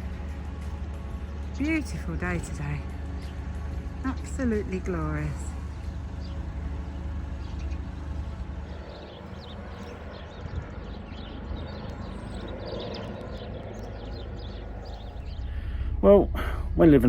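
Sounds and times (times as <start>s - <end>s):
diesel engine running: 0.0s - 17.0s
small birds chirping: 0.0s - 17.0s.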